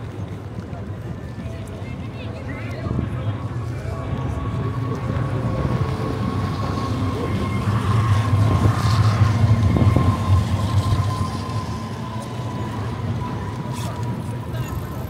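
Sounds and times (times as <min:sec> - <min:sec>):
thin steady whine: 0:00.0 - 0:15.0.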